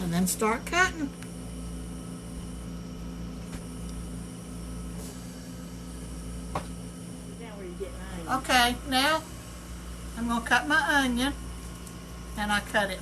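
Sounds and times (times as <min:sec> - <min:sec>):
mechanical hum with held tones: 0:00.0 - 0:13.0.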